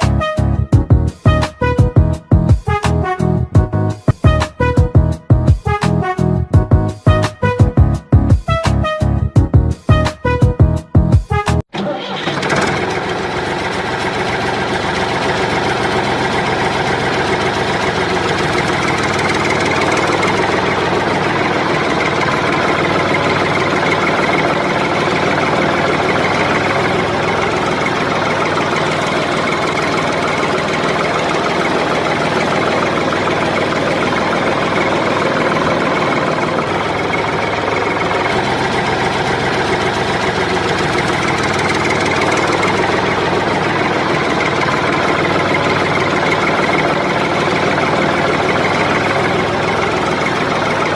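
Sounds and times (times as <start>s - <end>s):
engine idling with knock: 0.0s - 3.0s, 12.2s - 50.9s.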